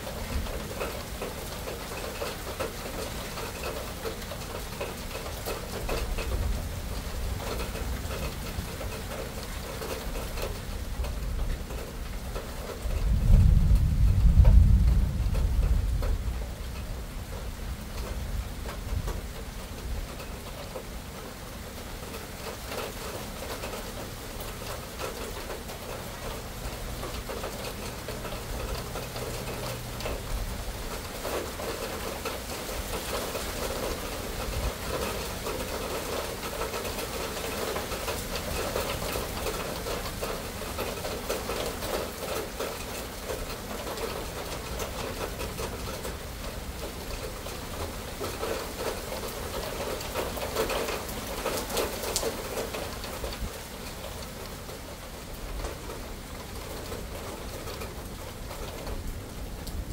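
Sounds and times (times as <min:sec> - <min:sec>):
raindrops striking close by: 0:00.0 - 0:59.9
steady rain: 0:00.0 - 0:59.9.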